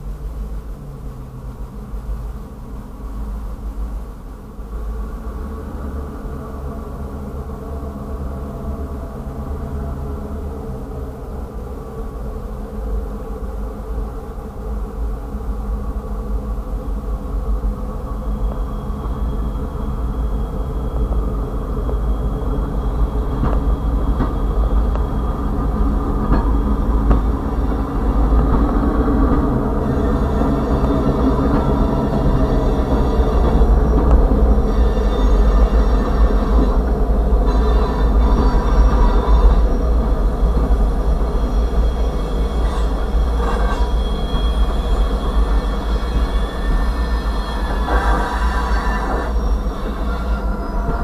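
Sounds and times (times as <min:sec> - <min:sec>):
diesel locomotives rumbling: 0:00.0 - 0:51.0.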